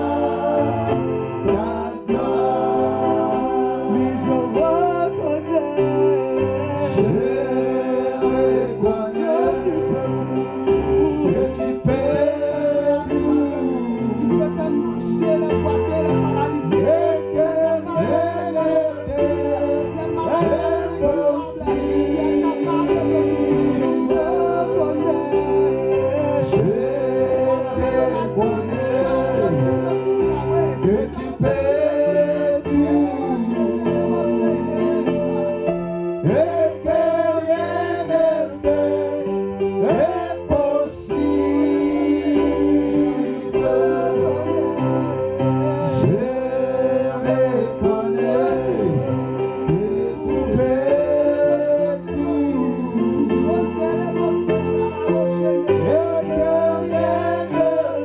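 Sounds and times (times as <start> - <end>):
electronic keyboard: 0.0 - 58.0
singers on microphones: 0.0 - 58.0.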